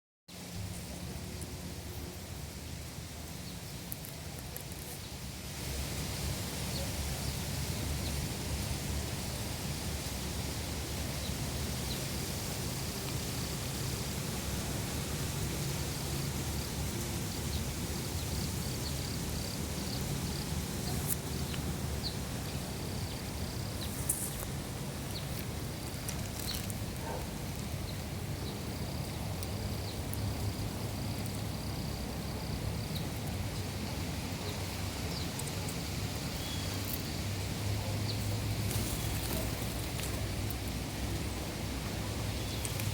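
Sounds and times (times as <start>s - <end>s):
low rumble and hiss: 0.3s - 42.9s.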